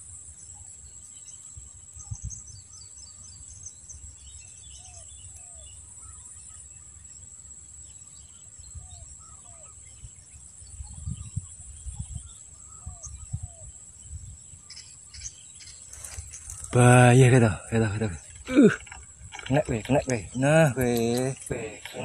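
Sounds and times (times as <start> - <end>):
birds chirping: 0.0 - 22.0
insects droning: 0.0 - 22.0.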